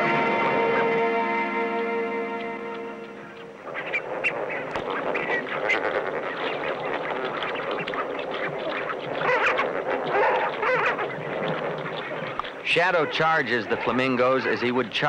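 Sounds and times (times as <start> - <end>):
flock of flamingos honking: 0.0 - 15.0.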